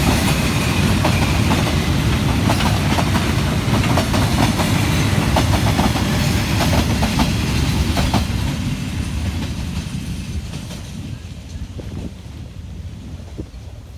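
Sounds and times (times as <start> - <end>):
train wheels clacking over rail joints: 0.0 - 11.9
freight train wagons rumbling past: 0.0 - 13.9.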